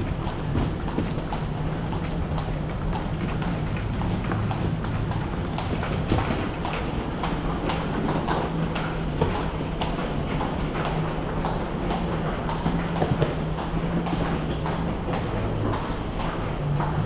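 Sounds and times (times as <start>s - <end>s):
footsteps on tiled floor: 0.0s - 17.0s.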